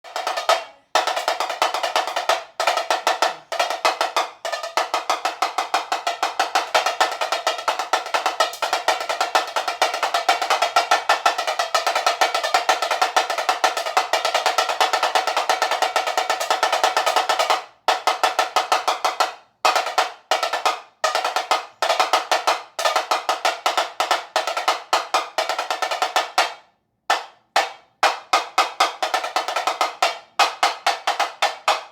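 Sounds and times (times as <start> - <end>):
samba percussion drumming: 0.0 - 31.9.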